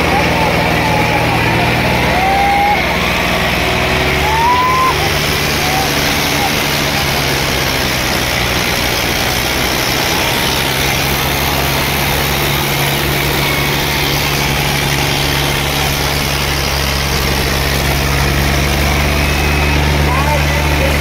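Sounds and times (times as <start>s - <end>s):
tractor diesel engines under load: 0.0s - 21.0s.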